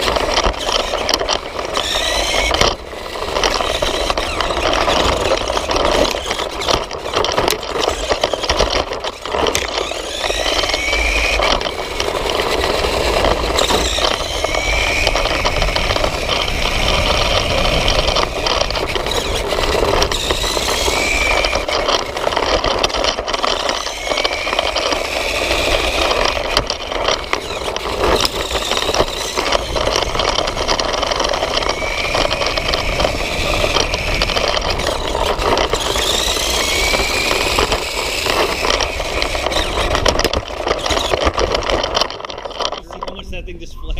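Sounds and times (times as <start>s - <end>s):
toy chassis rattling on ground: 0.0s - 43.9s
toy motorcycle motor whining: 0.0s - 43.9s.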